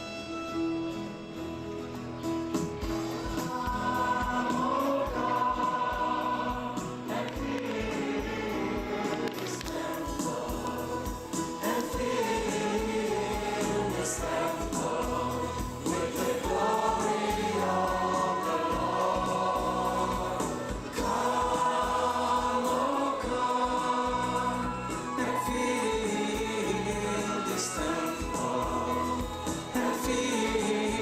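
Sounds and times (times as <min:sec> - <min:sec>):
instrumental accompaniment with beat: 0:02.4 - 0:31.0
choir singing gospel song: 0:03.0 - 0:31.0.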